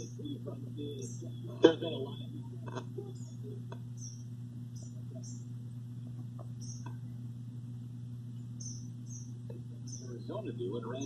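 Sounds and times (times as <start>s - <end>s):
faint radio crackle: 0.0s - 8.6s, 9.4s - 11.0s
radio humming: 0.0s - 11.0s.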